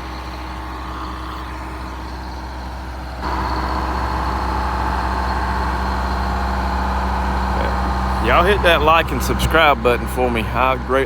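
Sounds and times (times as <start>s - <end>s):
heavy machinery engine humming: 0.0s - 11.0s.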